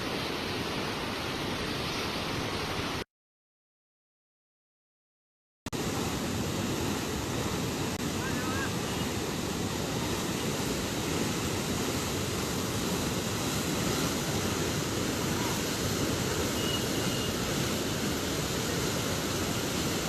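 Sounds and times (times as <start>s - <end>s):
floodwater rushing: 0.0s - 3.0s, 5.8s - 20.0s.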